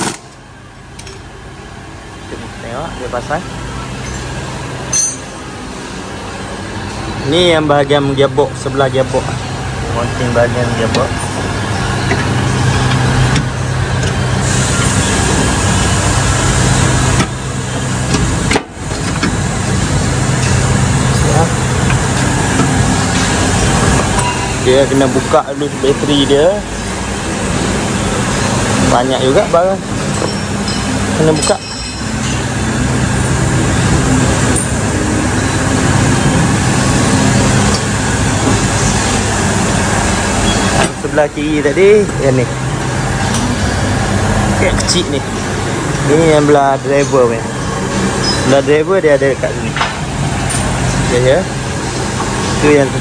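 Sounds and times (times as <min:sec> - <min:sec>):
mechanical drone: 0:00.0 - 0:53.0
workshop machinery humming: 0:00.0 - 0:53.0.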